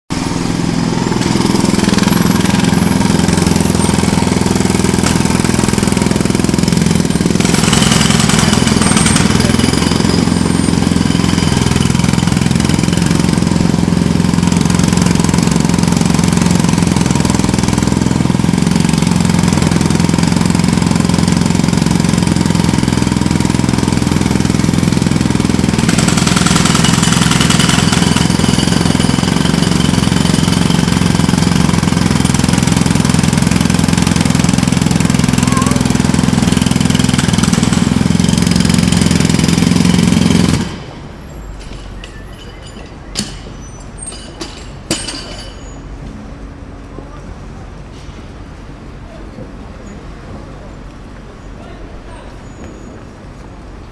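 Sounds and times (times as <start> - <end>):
jackhammer hammering: 0.1 - 45.9.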